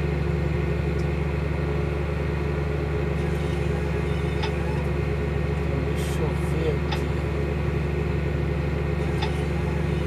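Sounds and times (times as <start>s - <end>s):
tractor diesel engine droning: 0.0s - 10.0s.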